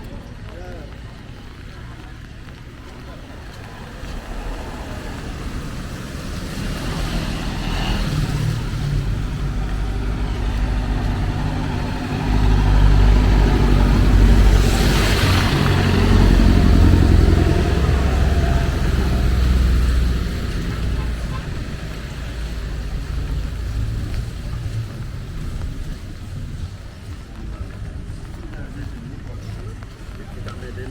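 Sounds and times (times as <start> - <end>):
motor vehicle passing: 2.7 - 30.9.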